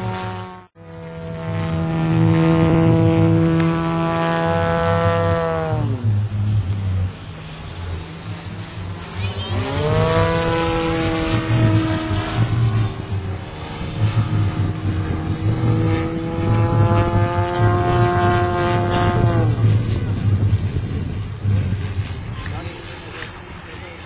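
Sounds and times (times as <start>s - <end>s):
model airplane engine: 0.0s - 24.0s
wind rumble on microphone: 1.1s - 24.0s.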